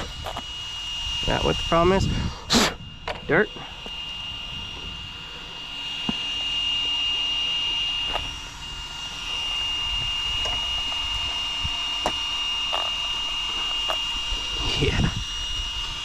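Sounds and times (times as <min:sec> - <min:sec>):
rc car motor whine: 0:00.0 - 0:16.0.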